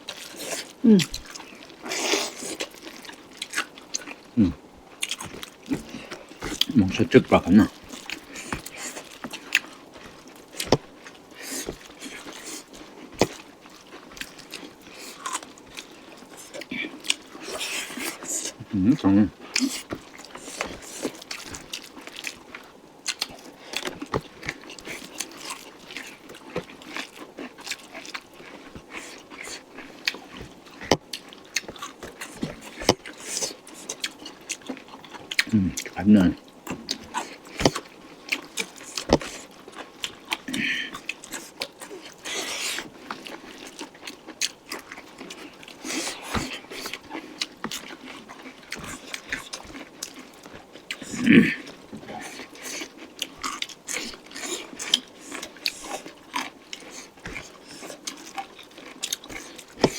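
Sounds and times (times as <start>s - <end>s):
mouth chewing food: 0.0s - 59.9s.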